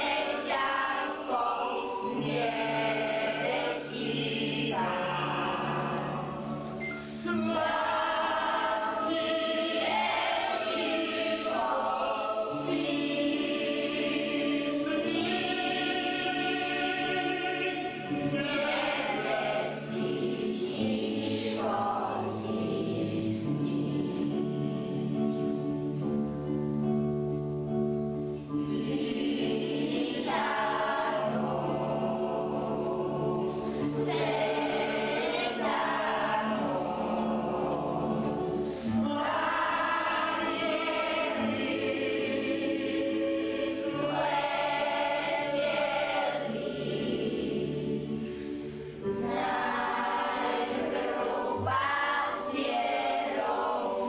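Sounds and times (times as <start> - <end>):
choir singing held notes: 0.0 - 54.0.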